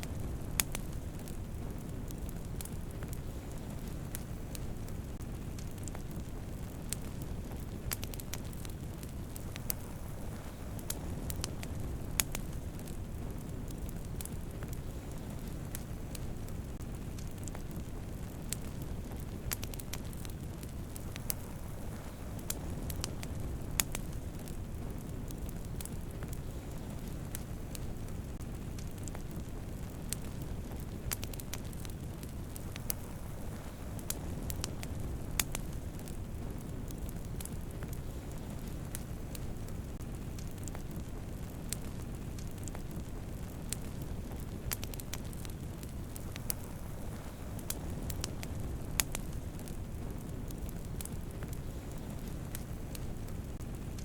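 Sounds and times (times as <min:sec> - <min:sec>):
campfire crackling: 0:00.0 - 0:54.0
low rumble of flames: 0:00.0 - 0:54.0.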